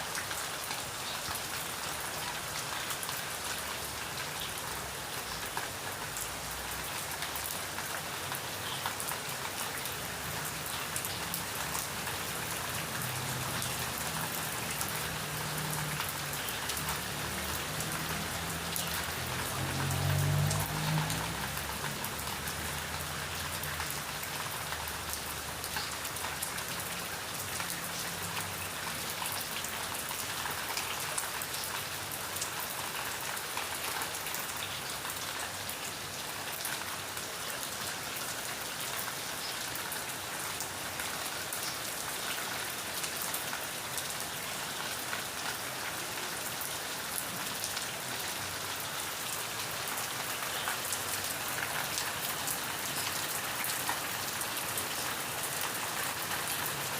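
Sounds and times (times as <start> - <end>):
raindrops hitting a surface: 0.0 - 56.9
steady rain falling: 0.0 - 56.9.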